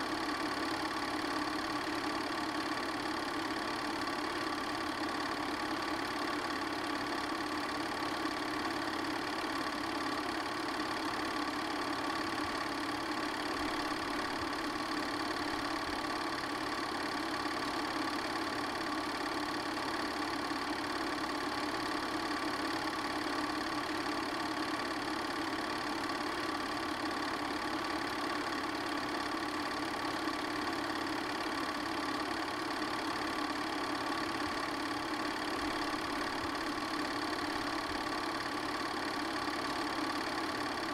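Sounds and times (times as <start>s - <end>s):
small machine whirring: 0.0s - 40.9s.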